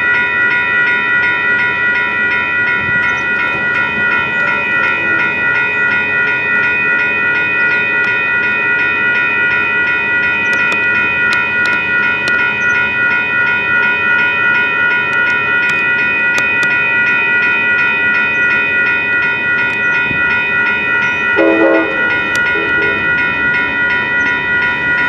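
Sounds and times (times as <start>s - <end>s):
railroad crossing bells ringing: 0.0s - 25.0s.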